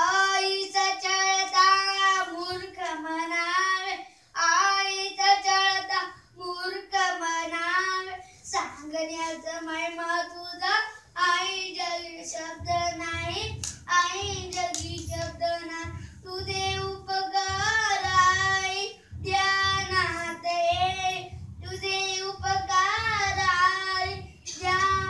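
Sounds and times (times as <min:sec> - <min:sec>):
boy singing in high voice: 0:00.0 - 0:25.0
low regular thumping: 0:00.0 - 0:25.0.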